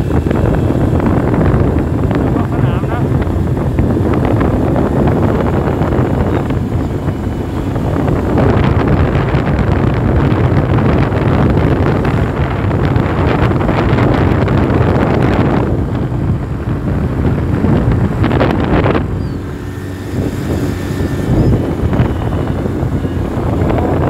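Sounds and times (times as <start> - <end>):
road and engine noise: 0.0 - 24.0
wind buffeting microphone: 0.0 - 24.0.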